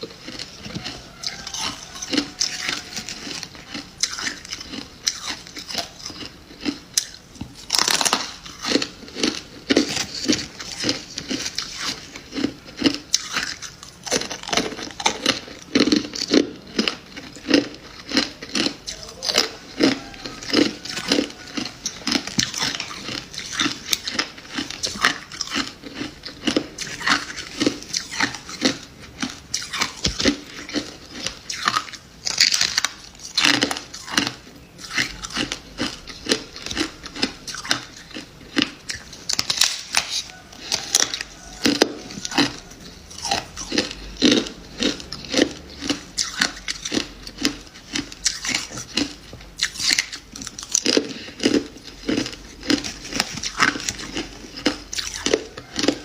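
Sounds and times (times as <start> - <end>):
crisp crunches of chewing frost: 0.0 - 56.0.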